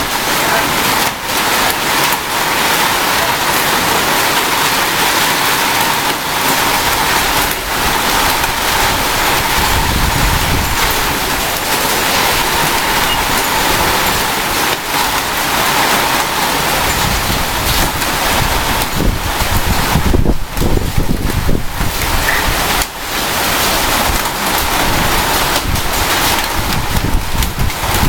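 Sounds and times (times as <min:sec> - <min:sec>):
rain hissing: 0:00.0 - 0:28.0.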